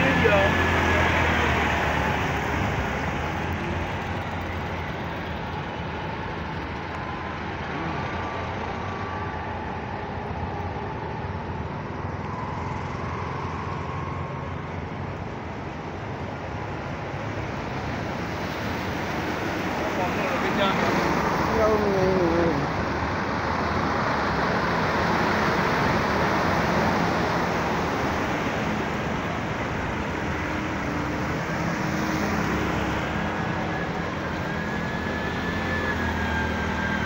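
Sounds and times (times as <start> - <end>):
vehicle engines: 0.0 - 37.0.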